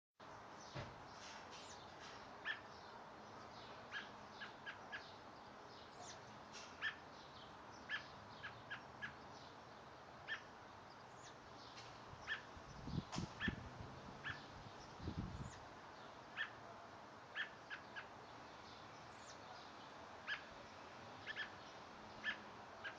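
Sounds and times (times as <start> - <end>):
small bird chirping: 0.6 - 13.6, 14.2 - 16.6, 17.3 - 22.9.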